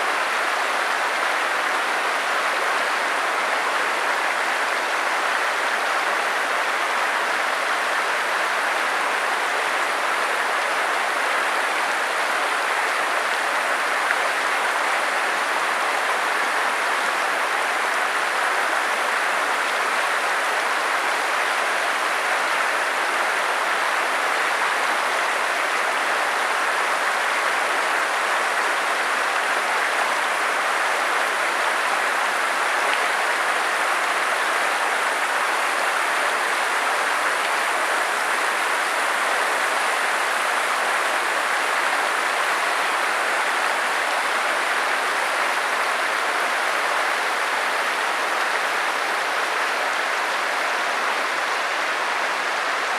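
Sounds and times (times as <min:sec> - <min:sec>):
stream flowing: 0:00.0 - 0:52.9.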